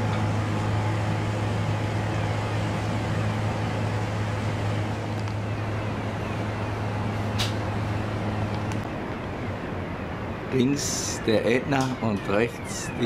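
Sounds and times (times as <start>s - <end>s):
low mechanical hum of machinery: 0.0s - 13.0s.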